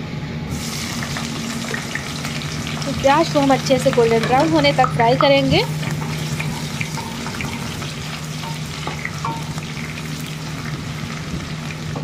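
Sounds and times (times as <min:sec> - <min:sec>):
low steady hum: 0:00.0 - 0:12.0
onion sizzling in oil: 0:00.5 - 0:12.0.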